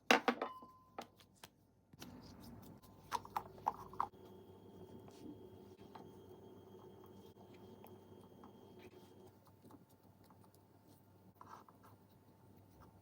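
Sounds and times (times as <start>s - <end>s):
low steady hum: 2.0s - 13.0s.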